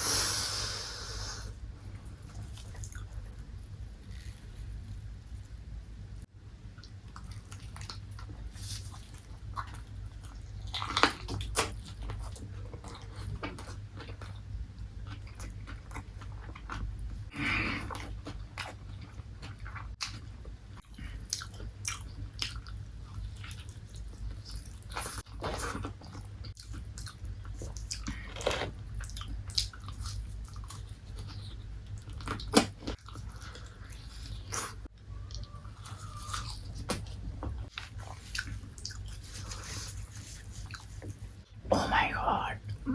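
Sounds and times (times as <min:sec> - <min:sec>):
chewing crispy fried chicken: 0:01.8 - 0:05.8, 0:06.7 - 0:41.5.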